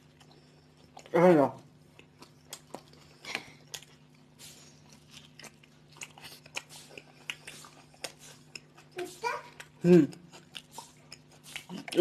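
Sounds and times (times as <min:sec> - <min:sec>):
people chewing: 0:00.0 - 0:12.0
crunching toasted bread: 0:01.7 - 0:12.0.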